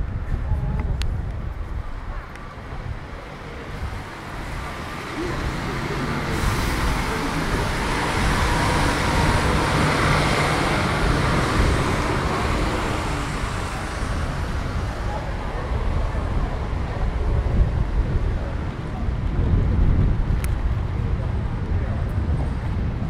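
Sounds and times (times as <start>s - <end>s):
motor vehicles passing: 2.9s - 23.0s.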